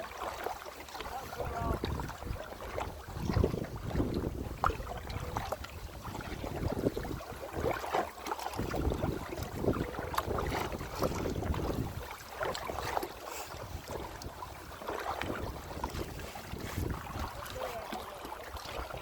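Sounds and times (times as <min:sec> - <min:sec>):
water splashing around kayak: 0:00.0 - 0:19.0
wind rumbling on microphone: 0:01.0 - 0:19.0.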